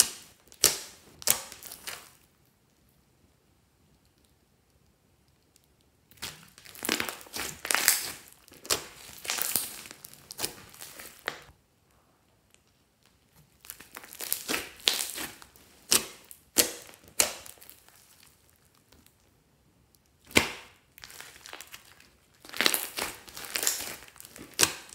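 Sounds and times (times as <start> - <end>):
slime crackling and popping: 0.0 - 2.4, 5.4 - 11.5, 12.3 - 19.3, 19.9 - 24.9.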